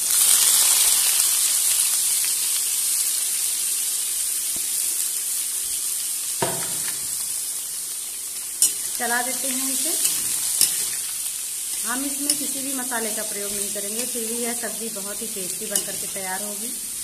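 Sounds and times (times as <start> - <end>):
pumpkin sizzling in hot oil: 0.0 - 17.0.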